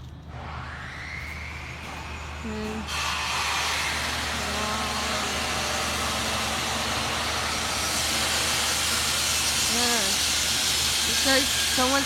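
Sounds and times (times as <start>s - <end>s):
machine cutting metal: 0.3s - 12.0s.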